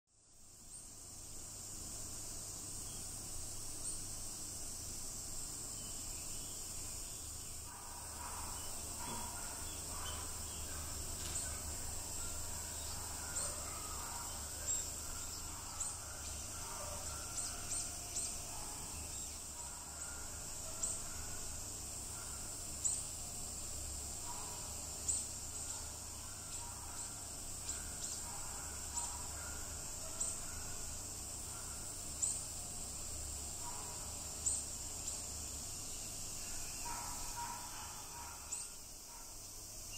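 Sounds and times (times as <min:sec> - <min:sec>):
high-pitched insect drone: 0:01.0 - 0:39.9.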